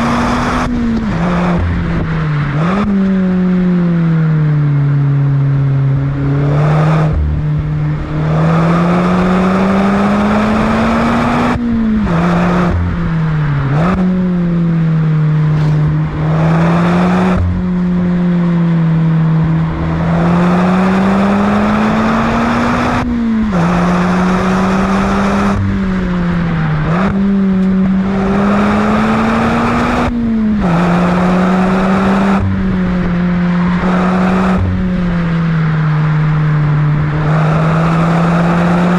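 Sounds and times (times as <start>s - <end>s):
car engine revving through gears: 0.0s - 38.9s.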